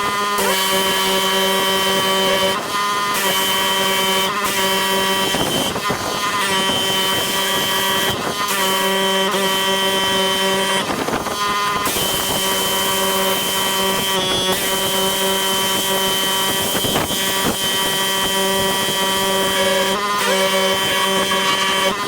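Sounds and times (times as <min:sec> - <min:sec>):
pressure washer pump hum: 0:00.0 - 0:22.0.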